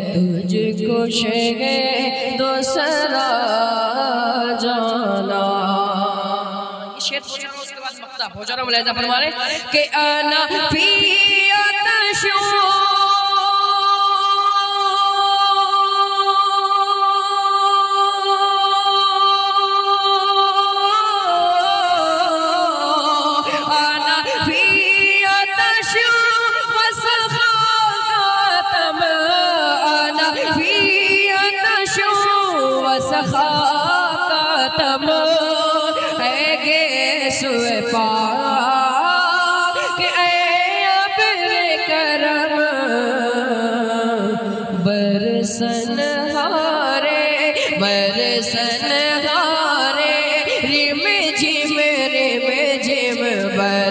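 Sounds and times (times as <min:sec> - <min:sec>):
person singing unaccompanied: 0:00.0 - 0:53.9.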